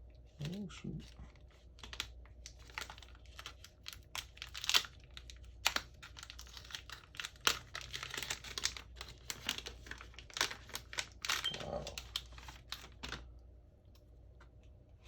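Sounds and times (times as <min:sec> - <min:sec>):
plastic packaging crinkling: 0:00.4 - 0:13.3.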